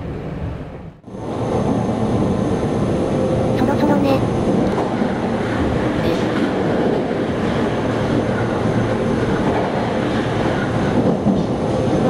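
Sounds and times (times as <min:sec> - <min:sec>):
train wheels on rail rumbling: 0:00.0 - 0:12.0.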